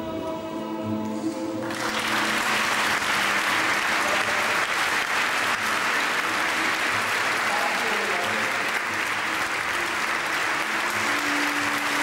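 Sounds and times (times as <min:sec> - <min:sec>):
music: 0:00.0 - 0:12.0
audience applauding: 0:01.6 - 0:12.0.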